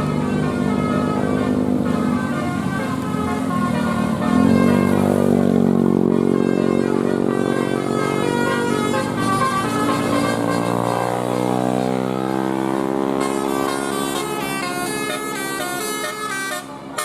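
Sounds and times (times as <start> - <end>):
musical air horns playing tune: 0.0 - 17.0.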